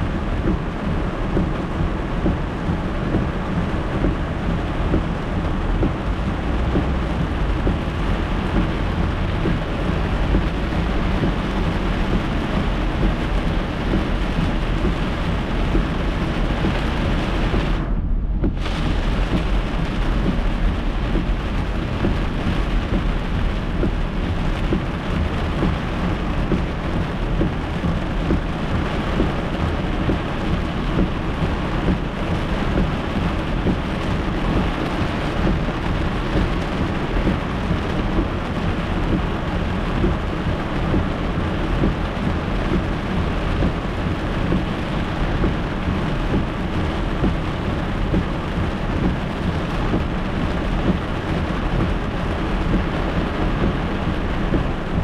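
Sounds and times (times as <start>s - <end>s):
heavy rain on car windshield: 0.0s - 55.0s
road noise rumble: 0.0s - 55.0s.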